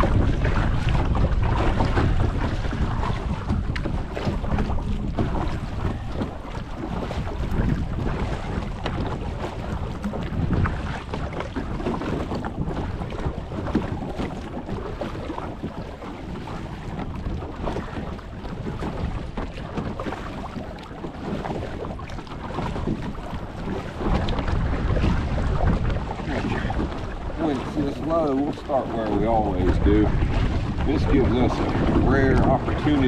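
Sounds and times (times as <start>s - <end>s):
boat running across water: 0.0s - 33.0s
wind buffeting the microphone: 0.0s - 33.0s.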